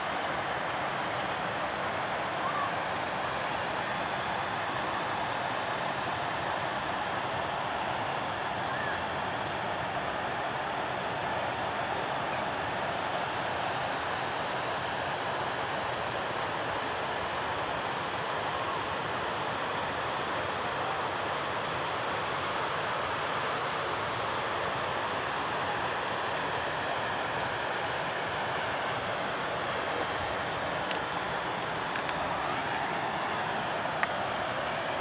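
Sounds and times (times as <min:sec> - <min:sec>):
river water over rapids: 0:00.0 - 0:35.0.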